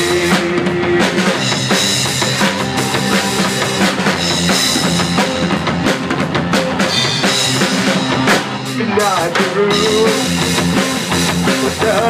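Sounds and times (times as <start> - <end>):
bass guitar: 0.0 - 12.0
distorted electric guitar: 0.0 - 12.0
drum kit: 0.0 - 12.0.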